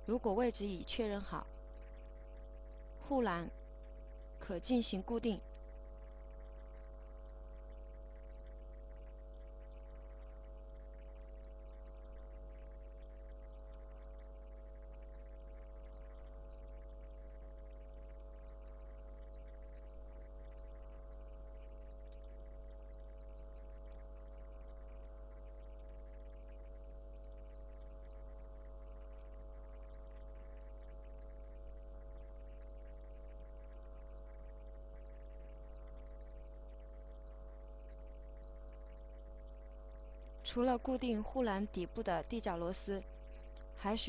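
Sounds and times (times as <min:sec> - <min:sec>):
electrical hum: 0:00.0 - 0:44.0
faint steady tones: 0:00.0 - 0:44.0.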